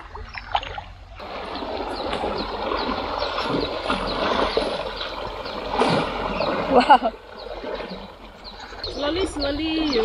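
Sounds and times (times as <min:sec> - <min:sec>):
river water rushing: 0:01.2 - 0:10.0.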